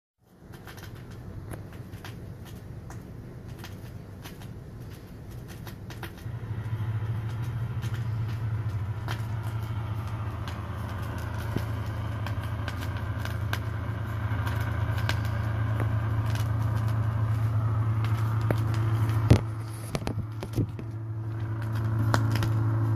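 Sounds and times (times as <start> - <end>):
low hum: 0.2 - 22.9
vinyl surface crackle and clicks: 0.2 - 22.9.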